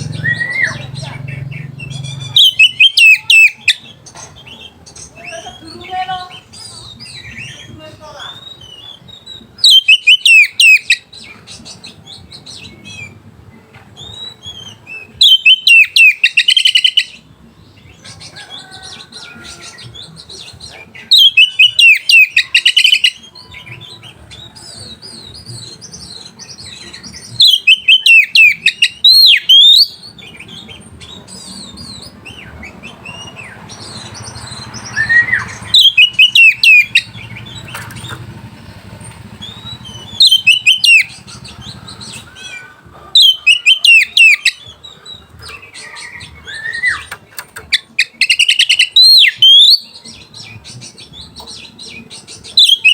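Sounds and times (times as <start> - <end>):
bird song with fast high notes: 0.0 - 52.9
soft bird twittering: 0.0 - 52.9.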